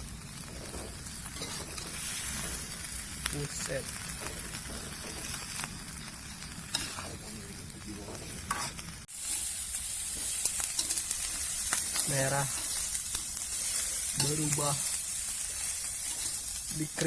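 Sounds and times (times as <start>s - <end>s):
insects sizzling in a wok: 0.0s - 17.0s.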